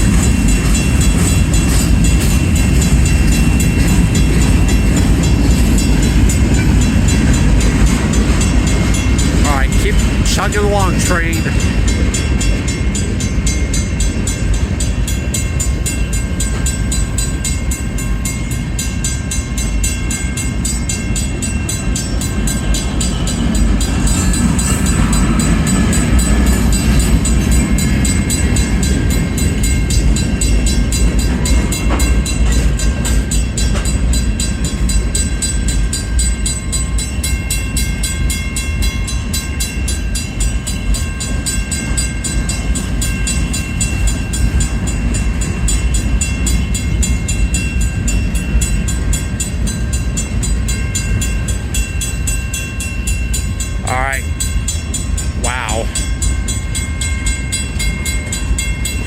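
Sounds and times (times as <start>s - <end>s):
crossing bell ringing rapidly: 0.0s - 59.0s
freight train rumbling on rails: 0.0s - 59.0s.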